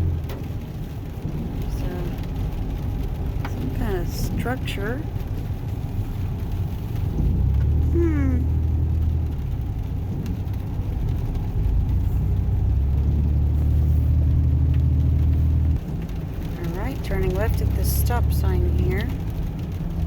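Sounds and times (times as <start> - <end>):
road noise inside cab: 0.0 - 20.0
truck engine drone: 0.0 - 20.0.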